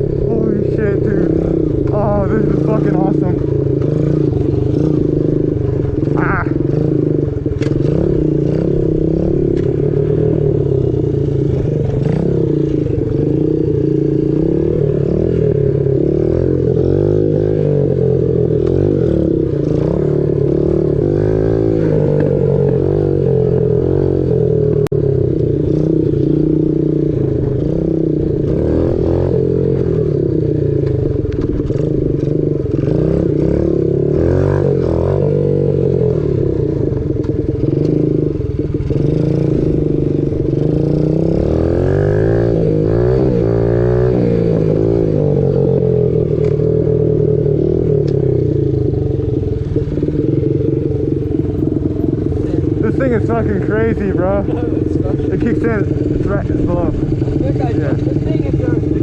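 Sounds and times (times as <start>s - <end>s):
small motorbike engine revving: 0.0s - 59.0s.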